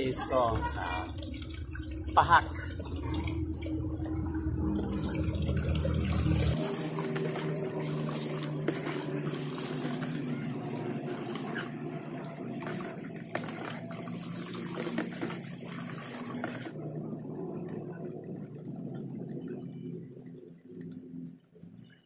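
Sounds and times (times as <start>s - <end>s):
water running and splashing: 0.0s - 21.9s.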